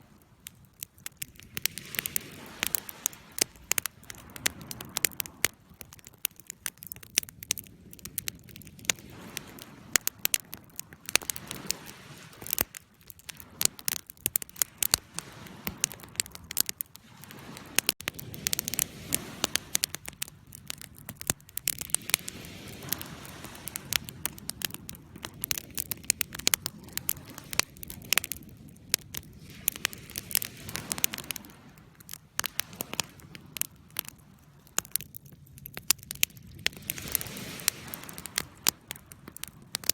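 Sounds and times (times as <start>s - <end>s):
campfire wood crackling and popping: 0.0s - 39.9s
low rush of flames: 0.0s - 39.9s.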